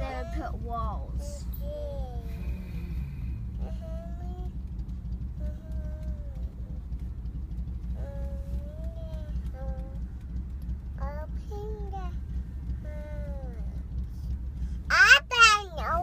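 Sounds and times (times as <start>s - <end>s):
road rumble inside a car: 0.0s - 16.0s.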